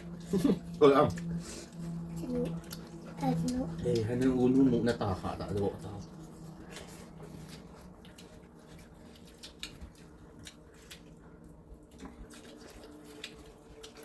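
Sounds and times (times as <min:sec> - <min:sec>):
faint steady hum: 0:00.0 - 0:14.0
people chewing and eating: 0:00.0 - 0:14.0.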